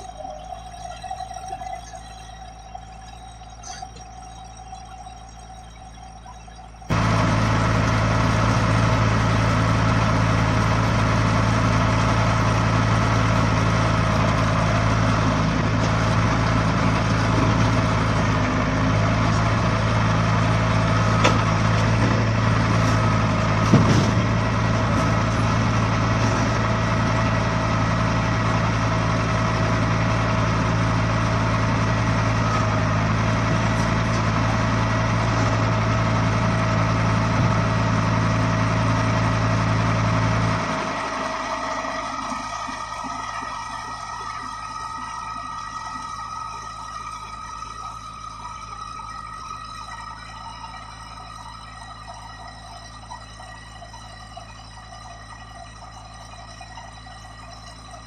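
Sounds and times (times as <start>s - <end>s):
heavy vehicle engine idling: 0.0s - 58.0s.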